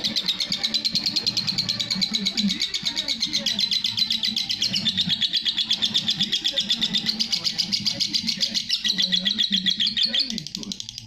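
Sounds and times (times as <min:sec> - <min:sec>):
lovebird chattering trill: 0:00.0 - 0:11.0.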